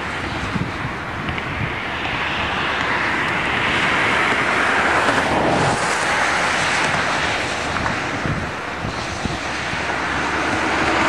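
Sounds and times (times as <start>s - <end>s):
distant freight train rolling: 0.0s - 11.0s.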